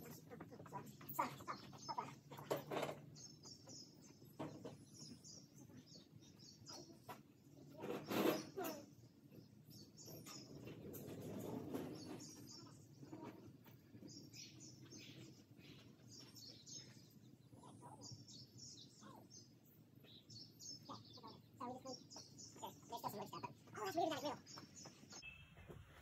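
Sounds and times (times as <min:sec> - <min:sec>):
small birds chirping: 0:00.0 - 0:25.8.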